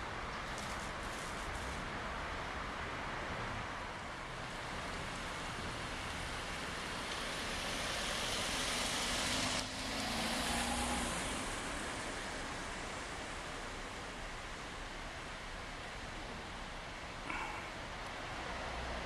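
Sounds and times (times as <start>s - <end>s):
car passing with tyre hiss: 0.1s - 19.0s.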